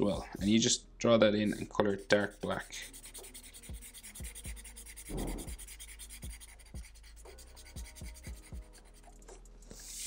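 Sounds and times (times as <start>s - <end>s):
marker rubbing on paper: 1.5s - 10.0s.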